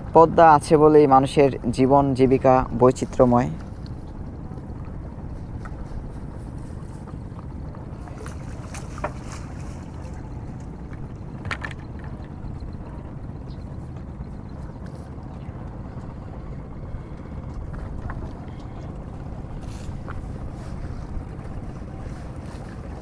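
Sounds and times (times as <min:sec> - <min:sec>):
boat engine rumble: 0:00.0 - 0:23.0.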